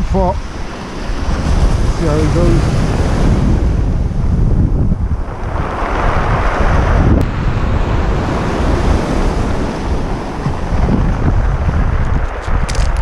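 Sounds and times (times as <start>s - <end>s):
surf washing up pebble beach: 0.0s - 13.0s
wind buffeting microphone: 0.0s - 13.0s.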